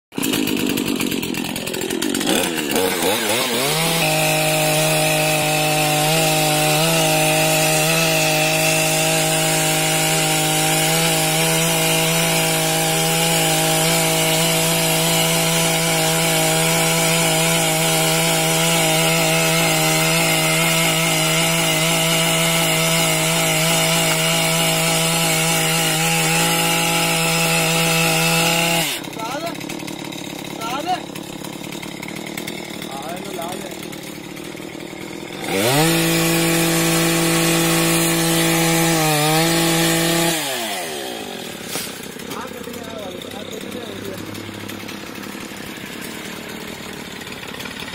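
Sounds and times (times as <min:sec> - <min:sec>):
chainsaw cutting branch: 0:00.1 - 0:47.9.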